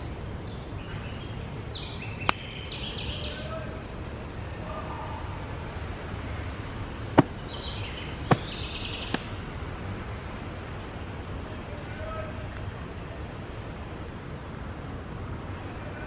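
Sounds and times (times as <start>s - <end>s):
birds chirping: 0.0s - 16.0s
outdoor background noise: 0.0s - 16.0s.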